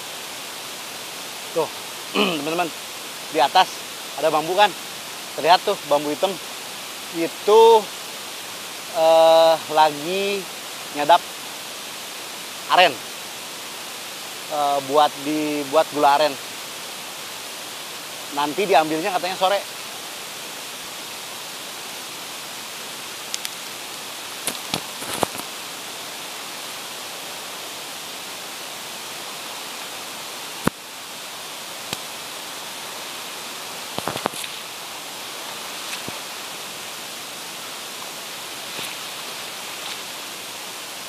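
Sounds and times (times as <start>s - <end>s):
river rushing over rocks: 0.0s - 41.0s.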